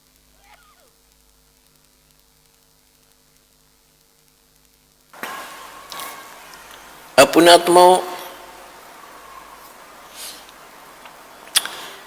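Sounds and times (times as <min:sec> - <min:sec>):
electrical mains hum: 0:00.0 - 0:12.0
faint hiss: 0:00.0 - 0:12.0.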